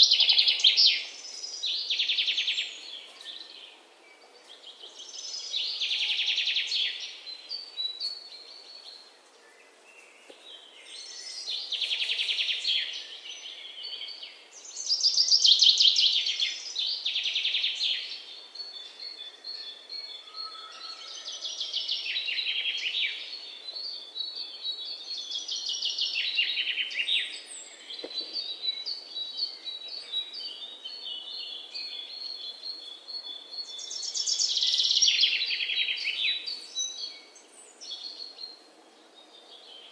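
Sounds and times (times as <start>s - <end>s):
small birds chirping trills: 0.0s - 39.9s.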